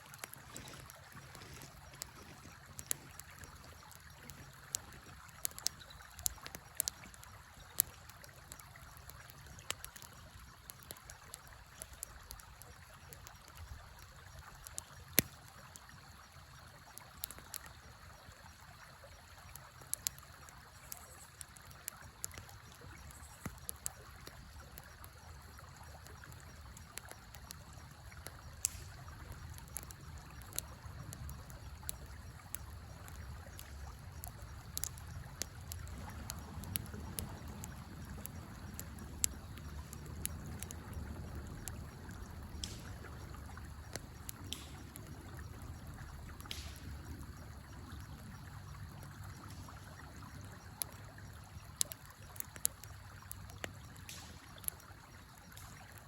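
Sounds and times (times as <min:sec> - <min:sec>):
fire popping: 0:00.0 - 0:56.0
flowing river: 0:00.0 - 0:56.0
wood fire crackling: 0:00.0 - 0:56.0.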